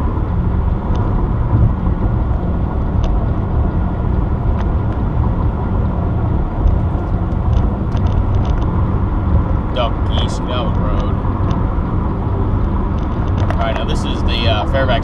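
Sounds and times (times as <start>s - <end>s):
car road noise from inside: 0.0s - 15.0s.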